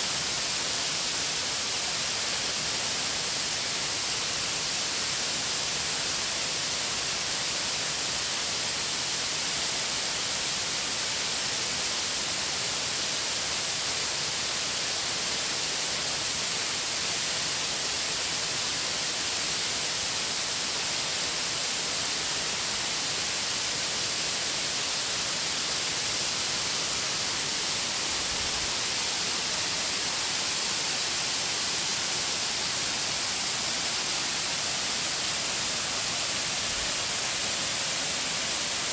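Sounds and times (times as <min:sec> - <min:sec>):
waterfall hissing: 0:00.0 - 0:38.9.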